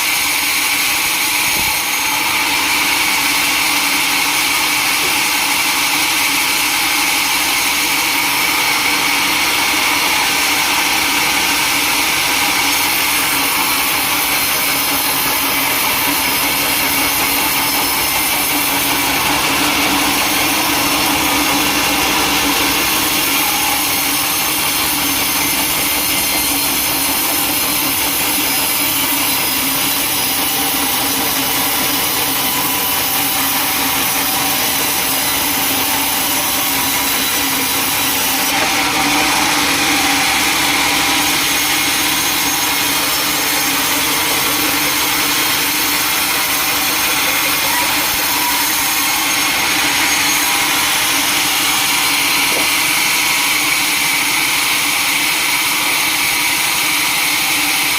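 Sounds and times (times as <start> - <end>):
sawmill saw cutting wood: 0.0 - 57.9.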